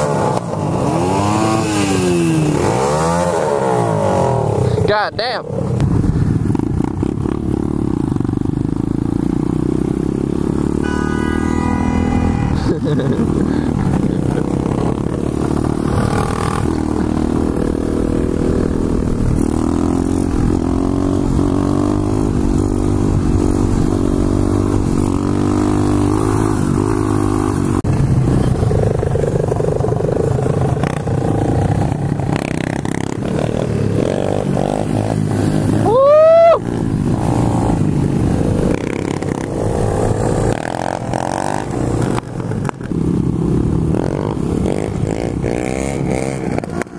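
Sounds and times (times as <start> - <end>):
motorbike engine revving: 0.0 - 46.9.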